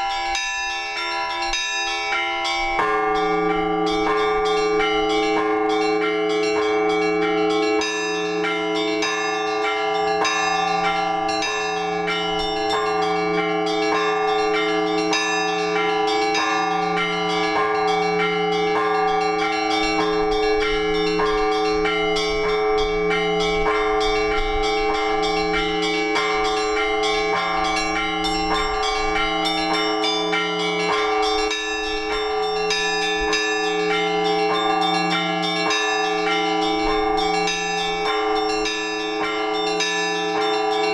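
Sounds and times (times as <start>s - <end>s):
low church bell: 0.0s - 40.9s.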